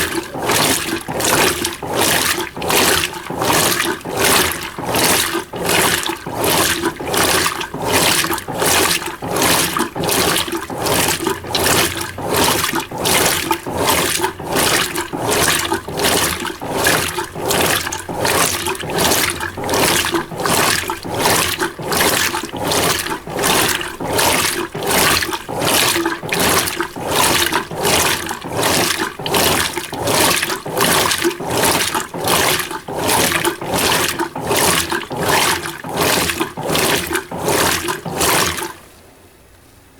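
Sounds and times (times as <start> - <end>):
washing machine filling with water: 0.0 - 39.0.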